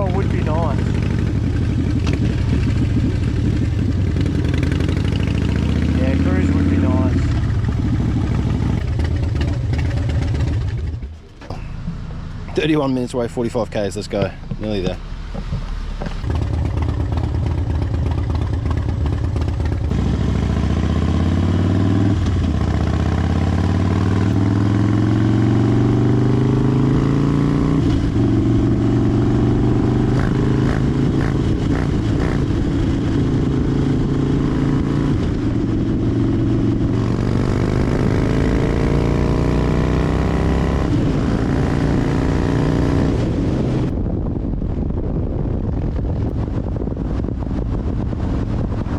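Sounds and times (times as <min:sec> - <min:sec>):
wind noise: 0:00.0 - 0:12.0, 0:12.6 - 0:48.9
motorcycle engine: 0:00.0 - 0:48.9
road noise: 0:00.0 - 0:48.9.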